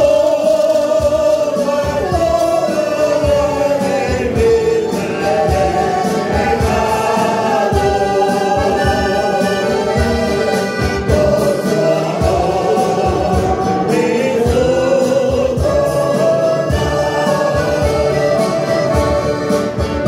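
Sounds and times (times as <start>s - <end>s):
accordion: 0.0s - 20.0s
men's choir singing a hymn: 0.0s - 20.0s
strummed acoustic guitar: 0.0s - 20.0s.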